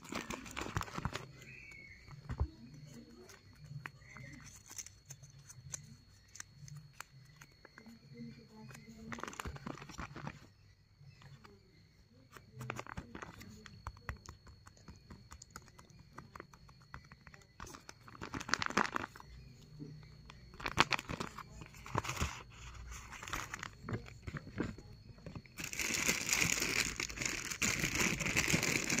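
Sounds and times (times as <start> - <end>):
paper rustling and crinkling: 0.0 - 10.5, 12.3 - 14.2, 16.4 - 19.4, 20.4 - 29.0.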